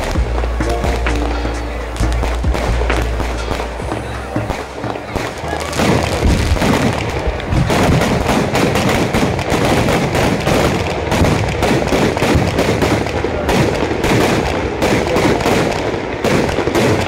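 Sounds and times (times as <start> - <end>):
fireworks cracking and banging: 0.0 - 17.0.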